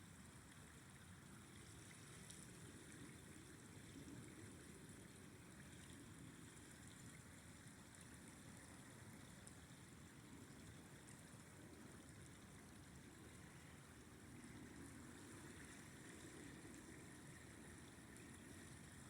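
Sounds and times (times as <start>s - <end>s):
faint flowing river: 0.0s - 19.0s.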